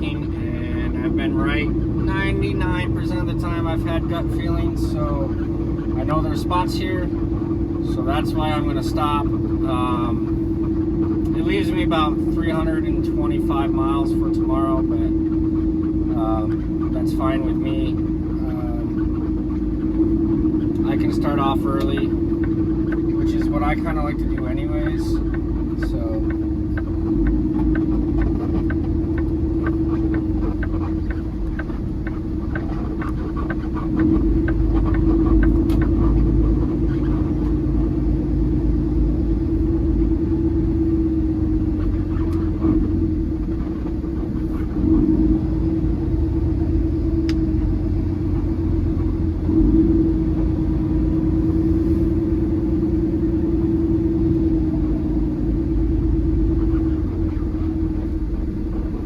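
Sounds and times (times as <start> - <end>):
truck diesel engine rumbling: 0.0 - 59.0.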